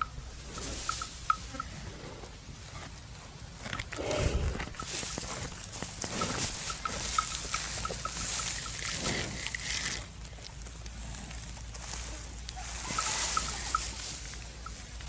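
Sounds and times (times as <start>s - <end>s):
buffalo chewing cud: 0.0s - 15.0s.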